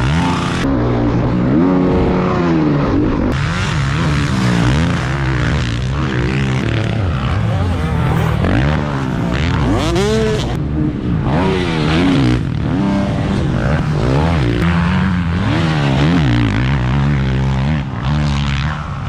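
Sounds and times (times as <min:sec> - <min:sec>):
dirt bike engine revving: 0:01.5 - 0:19.0.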